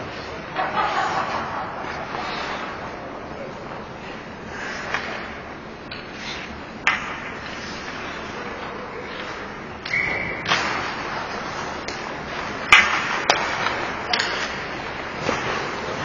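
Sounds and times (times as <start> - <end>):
skate blades scraping ice: 0.1 - 3.1, 4.5 - 9.6, 10.4 - 16.0
sticks and puck clacking: 0.1 - 16.0.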